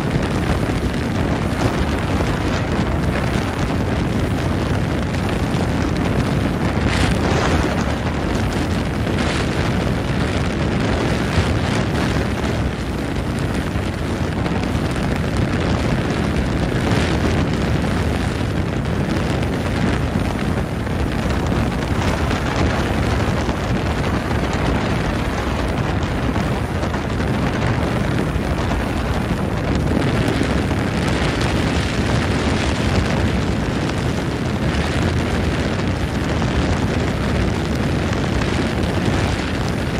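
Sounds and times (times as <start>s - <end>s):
motorboat engine rumble: 0.0s - 39.9s
rushing water: 0.0s - 39.9s
wind buffeting microphone: 0.0s - 39.9s.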